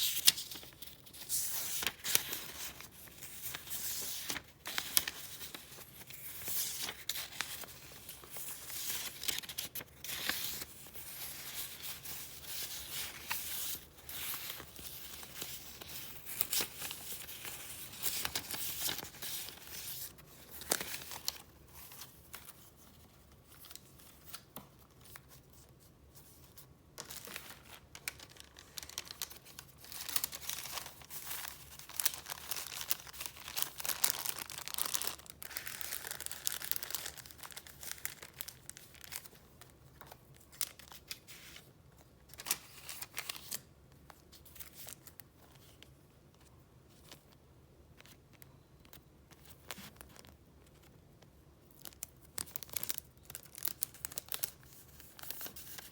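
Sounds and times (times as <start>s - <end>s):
paper rustling and flipping: 0.0s - 47.4s, 48.0s - 55.9s.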